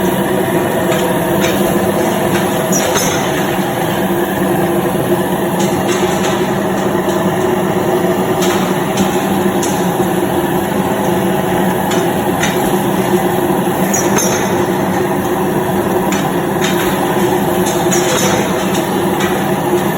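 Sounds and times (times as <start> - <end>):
machine hum: 0.0 - 19.9.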